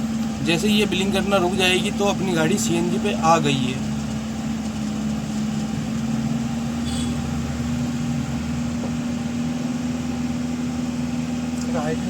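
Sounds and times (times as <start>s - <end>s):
engine idling steadily: 0.0s - 12.0s.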